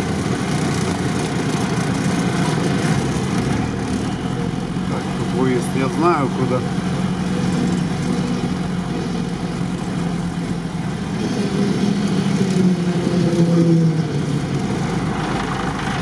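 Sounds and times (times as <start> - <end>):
off-road vehicle engine driving: 0.0 - 16.0.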